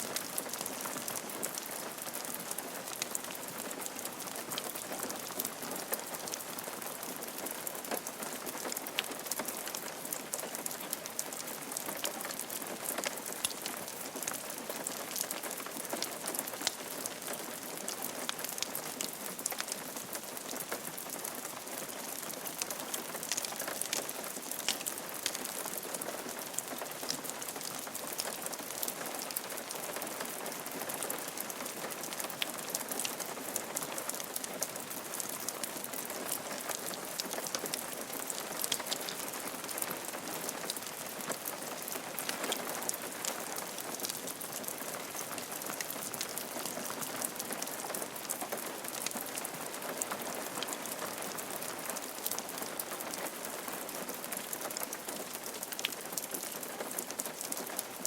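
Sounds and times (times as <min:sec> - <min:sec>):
rain on a roof: 0:00.0 - 0:58.0.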